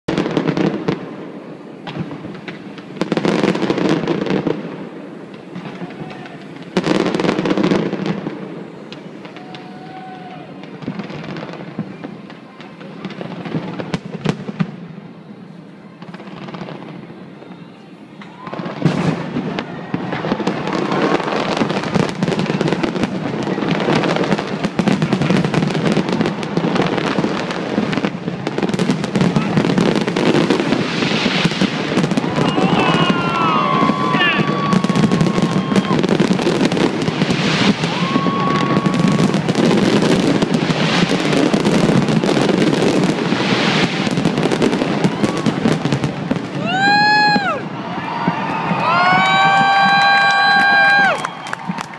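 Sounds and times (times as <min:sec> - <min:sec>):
fireworks bursting and crackling: 0:00.1 - 0:51.9.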